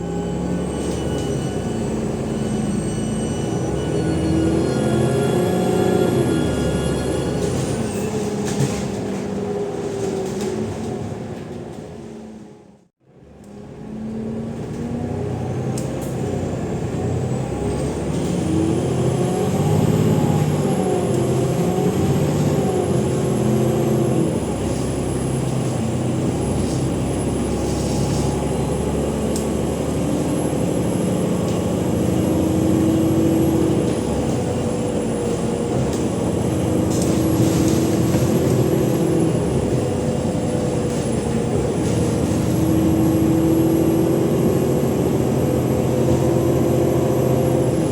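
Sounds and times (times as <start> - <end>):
diesel bus engine under load: 0.0 - 47.9.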